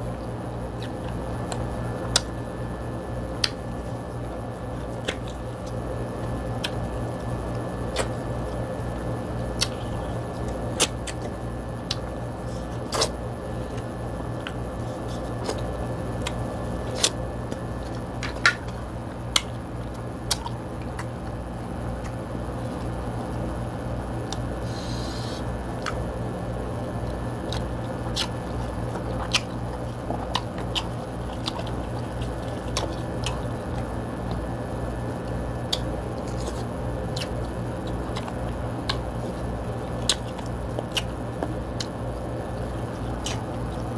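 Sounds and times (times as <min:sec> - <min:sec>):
steady low hum: 0:00.0 - 0:43.9
chewing and lip smacks: 0:00.2 - 0:02.3, 0:03.4 - 0:05.9, 0:06.6 - 0:08.6, 0:09.5 - 0:23.4, 0:24.3 - 0:26.1, 0:27.0 - 0:34.5, 0:35.2 - 0:43.9.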